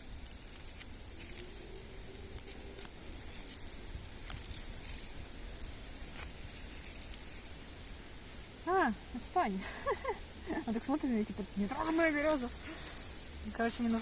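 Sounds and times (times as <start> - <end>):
bark crackling and rustling: 0.0 - 8.6, 9.8 - 14.0.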